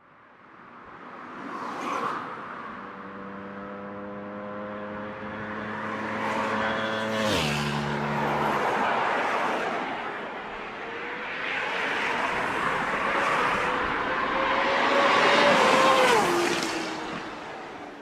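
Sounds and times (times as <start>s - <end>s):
racing motorcycle passing: 2.8s - 18.0s.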